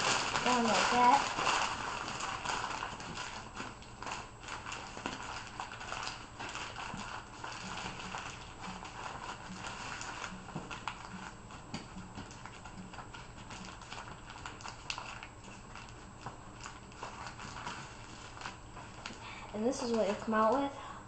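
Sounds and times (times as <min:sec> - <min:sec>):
newspaper crumpling: 0:00.0 - 0:20.7.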